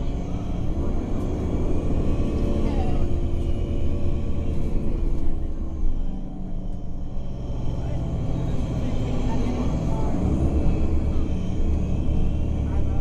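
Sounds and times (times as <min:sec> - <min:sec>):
bus engine rumble inside: 0:00.0 - 0:13.0.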